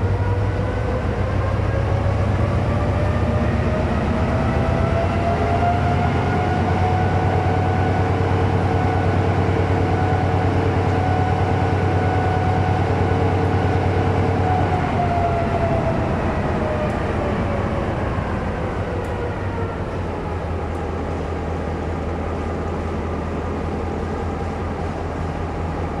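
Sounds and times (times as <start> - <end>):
diesel locomotive engine running: 0.0 - 26.0.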